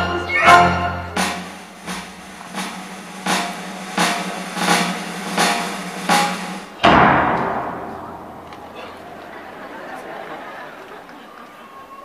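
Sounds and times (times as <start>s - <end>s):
drum strikes: 0.0s - 9.8s.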